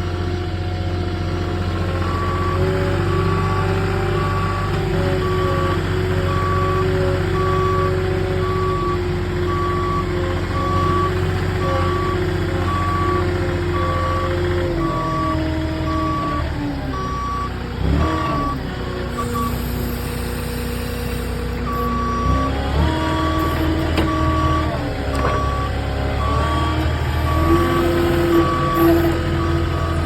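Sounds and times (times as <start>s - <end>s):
truck engine running: 0.0s - 30.0s
truck backup alarm beeping: 1.8s - 30.0s.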